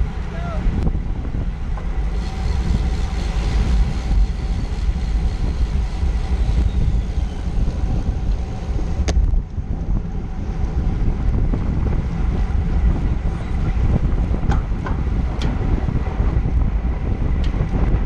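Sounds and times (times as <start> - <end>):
bicycle tyre noise: 0.0 - 18.0
wind buffeting microphone: 0.0 - 18.0.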